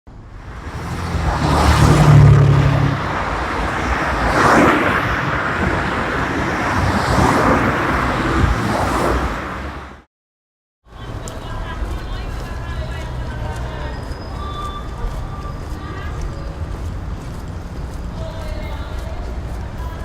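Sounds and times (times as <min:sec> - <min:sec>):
cars passing: 0:00.1 - 0:10.1, 0:10.9 - 0:20.0.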